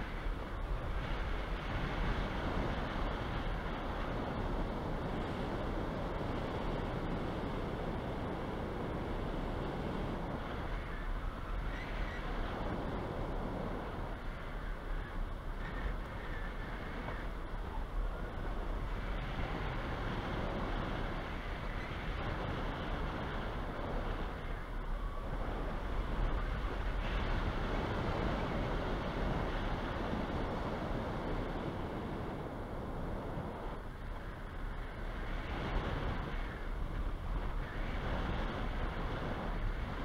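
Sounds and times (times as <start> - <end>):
wind rushing over microphone: 0.0 - 40.0.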